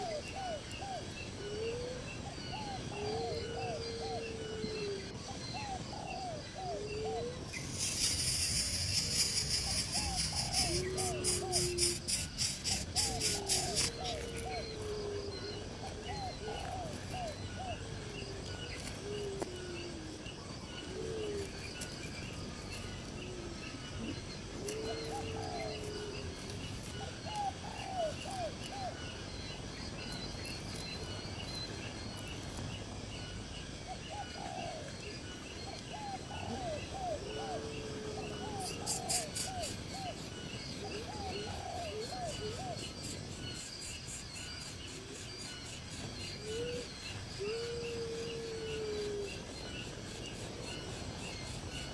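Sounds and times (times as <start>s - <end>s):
birds calling low notes: 0.0s - 51.9s
insects chirping: 0.0s - 51.9s.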